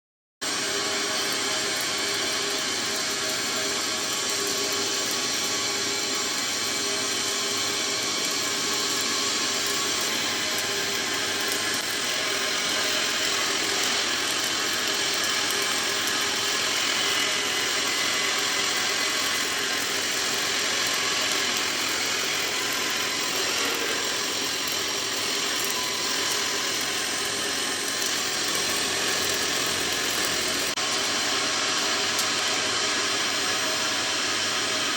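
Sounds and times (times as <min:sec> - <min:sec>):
welding arc crackling and hissing: 0:00.4 - 0:34.9.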